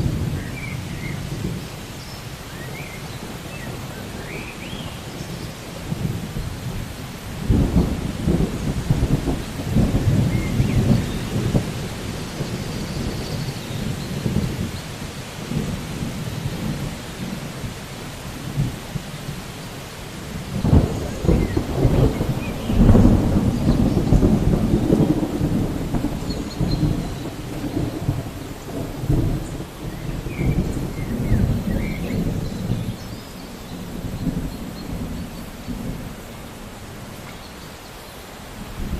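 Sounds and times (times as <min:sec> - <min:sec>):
thunder rumbling: 0:00.0 - 0:37.3, 0:38.5 - 0:38.9
steady rain hiss: 0:00.0 - 0:38.9.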